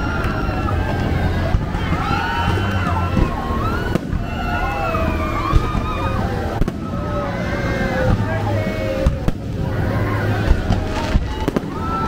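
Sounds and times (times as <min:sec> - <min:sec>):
sharp fireworks bangs: 0:00.0 - 0:07.2, 0:07.8 - 0:12.0
crowd chattering and calling out: 0:00.0 - 0:12.0.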